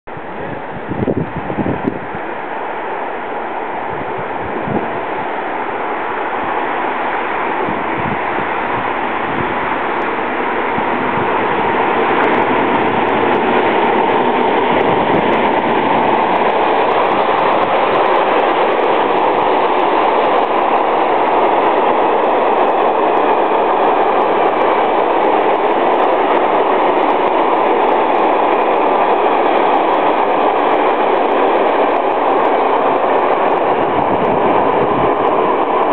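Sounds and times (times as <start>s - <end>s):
freight train rumbling past: 0.1s - 35.9s.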